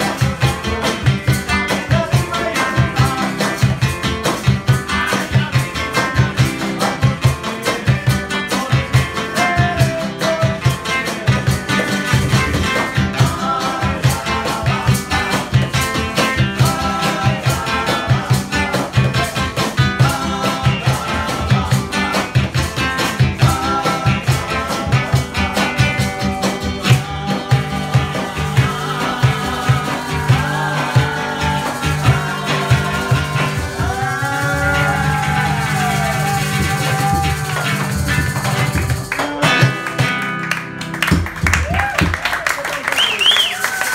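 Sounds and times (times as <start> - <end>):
maracas shaking: 0.0 - 40.2, 41.3 - 43.9
acoustic guitars strumming: 0.0 - 41.4
cajon beat: 0.0 - 43.9.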